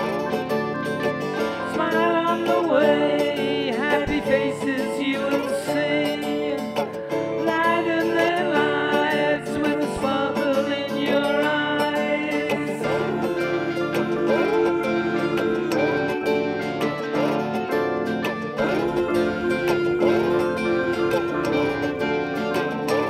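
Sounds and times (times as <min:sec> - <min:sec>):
person singing: 0:00.0 - 0:23.0
plucked acoustic guitar: 0:00.0 - 0:23.0.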